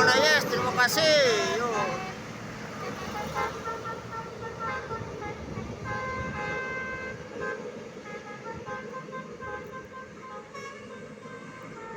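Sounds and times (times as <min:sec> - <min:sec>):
bus engine rumble: 0:00.0 - 0:11.9
bus musical horn melody: 0:00.0 - 0:11.9.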